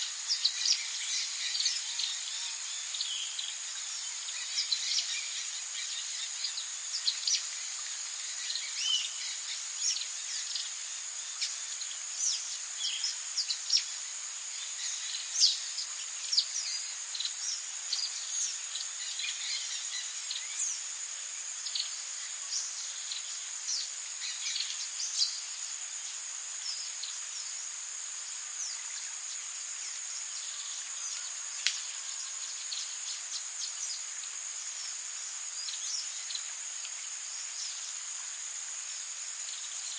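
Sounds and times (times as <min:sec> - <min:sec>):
high-pitched insect drone: 0:00.0 - 0:39.9
rain hiss: 0:00.0 - 0:39.9.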